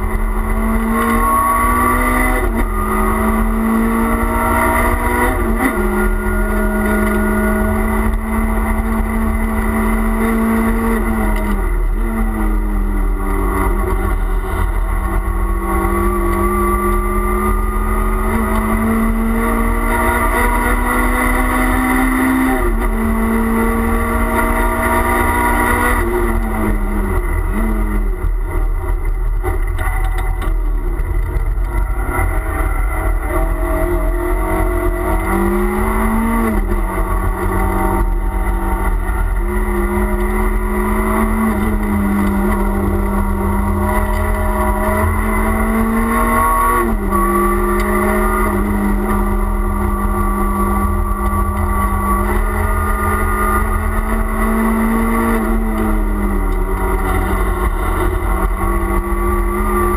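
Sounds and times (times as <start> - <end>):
car engine at racing speed: 0.0 - 59.9
road and tyre rumble: 0.0 - 59.9.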